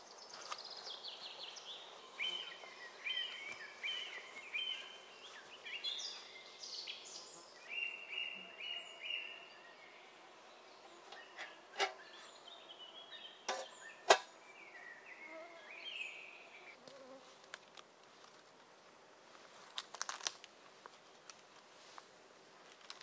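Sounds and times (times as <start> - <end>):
birds singing faintly: 0.0 - 18.8.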